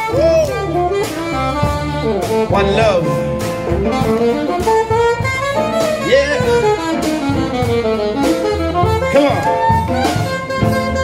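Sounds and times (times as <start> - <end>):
double bass line: 0.0 - 11.0
saxophone jazz melody: 0.0 - 11.0.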